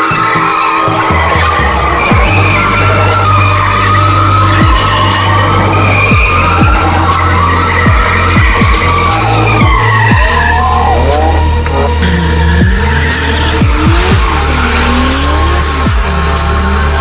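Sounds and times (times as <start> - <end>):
music with booming bass drops: 0.0 - 17.0
tyres squealing: 0.0 - 17.0.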